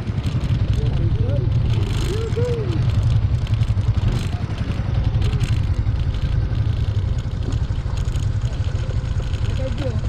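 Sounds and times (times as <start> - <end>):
light clatter from road: 0.0 - 10.0
scooter engine running: 0.0 - 10.0.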